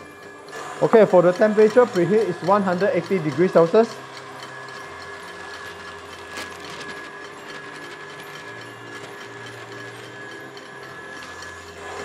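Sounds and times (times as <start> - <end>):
stand mixer motor whirring: 0.0 - 12.0.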